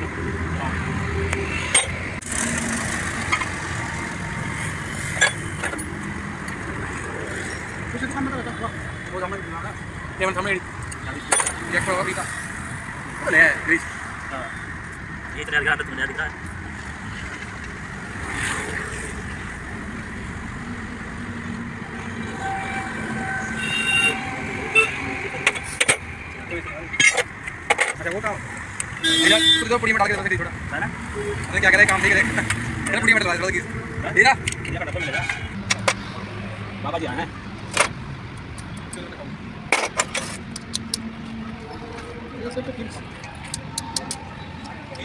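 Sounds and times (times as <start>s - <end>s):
road traffic rumble: 0.0s - 45.0s.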